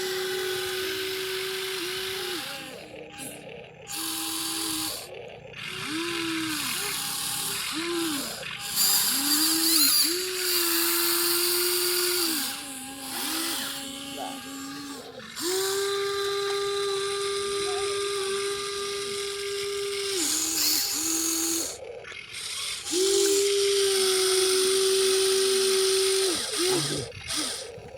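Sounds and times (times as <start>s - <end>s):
small electric motors whining: 0.0s - 27.9s.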